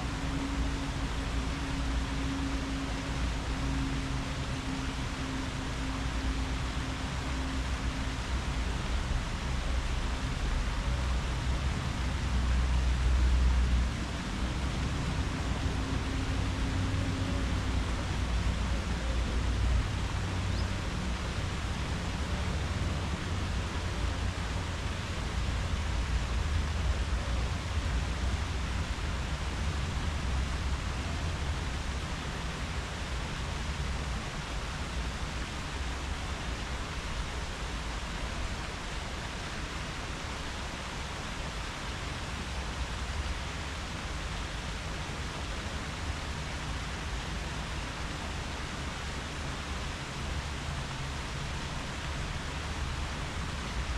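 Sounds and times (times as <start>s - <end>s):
wind rustling tree leaves: 0.0s - 53.9s.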